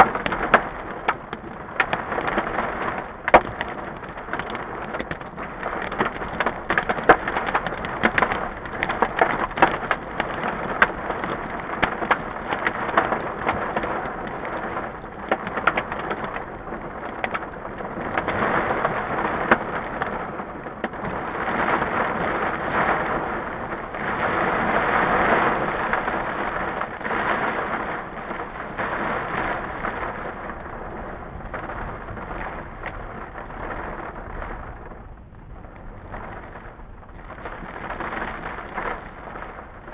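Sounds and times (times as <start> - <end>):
hail ticking on a car: 0.0 - 39.9
heavy rain on a car: 0.0 - 39.9.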